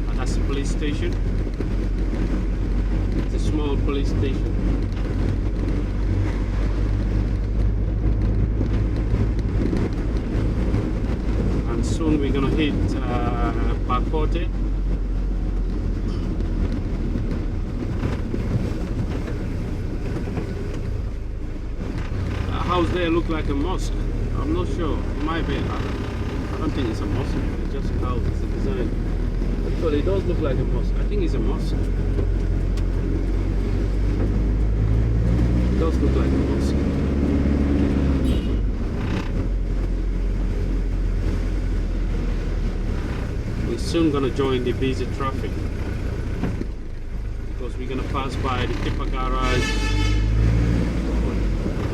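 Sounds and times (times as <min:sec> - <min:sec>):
car engine and tyres rumbling: 0:00.0 - 0:51.9
road noise: 0:00.0 - 0:51.9.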